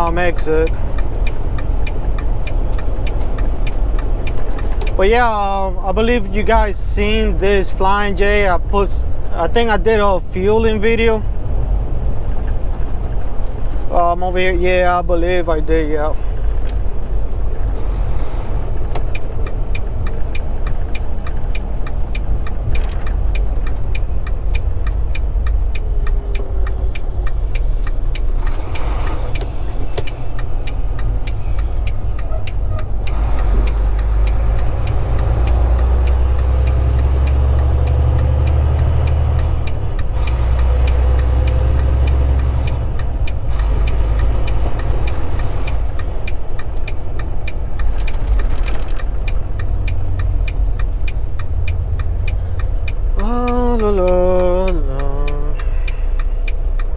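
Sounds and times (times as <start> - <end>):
truck diesel engine running: 0.0 - 56.9
turn signal ticking: 0.0 - 56.9.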